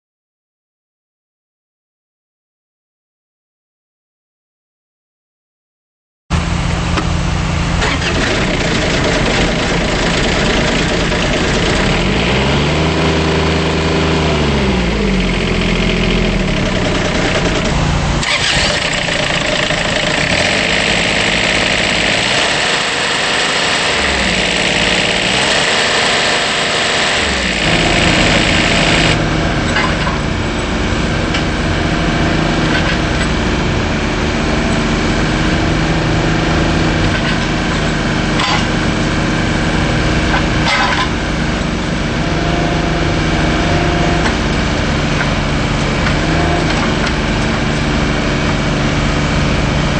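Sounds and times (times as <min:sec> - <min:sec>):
diesel engine under load: 0:06.3 - 0:49.9.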